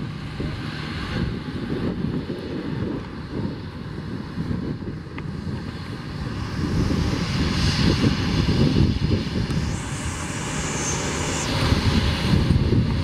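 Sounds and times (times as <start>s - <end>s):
jet engine high whine: 0.0s - 13.0s
jet engines low rumble: 0.0s - 13.0s.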